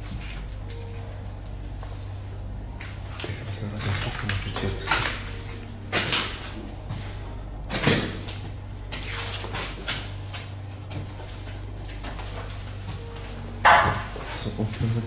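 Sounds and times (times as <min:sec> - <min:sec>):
footsteps on a bare floor: 0:00.0 - 0:15.0
steady low hum: 0:00.0 - 0:15.0.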